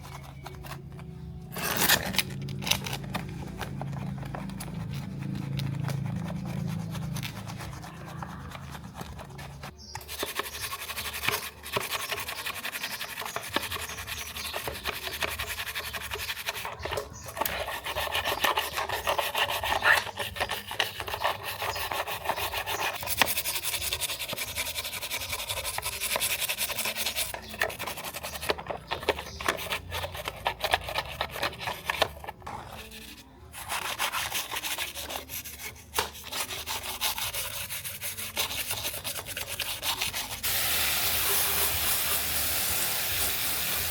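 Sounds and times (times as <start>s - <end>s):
abrasive rasping on toy car: 1.5s - 43.9s.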